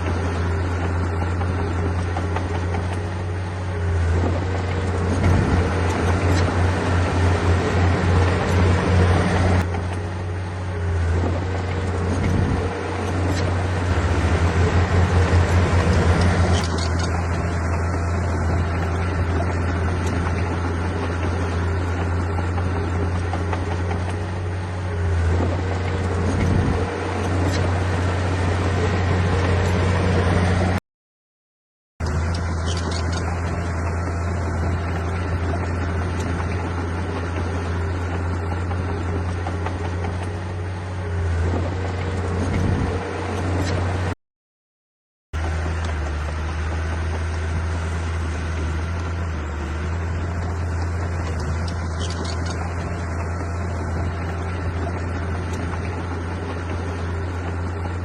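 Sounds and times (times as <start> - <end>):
diesel machinery engine drone: 0.0 - 30.8, 32.0 - 44.2, 45.4 - 58.0.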